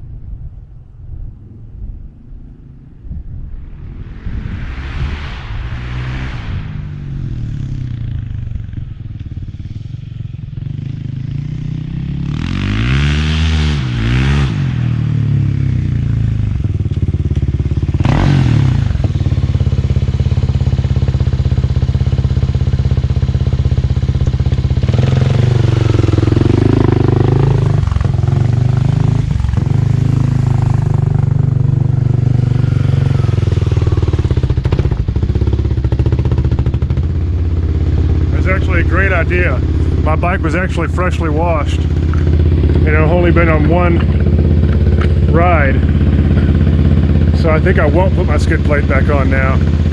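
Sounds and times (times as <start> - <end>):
motorcycle engine idling and revving: 6.6 - 49.9.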